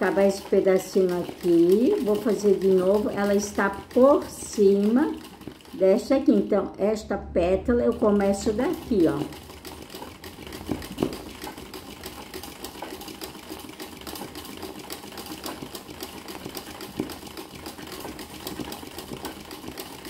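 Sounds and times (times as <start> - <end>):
sewing machine stitching: 0.0 - 6.7, 7.5 - 20.0.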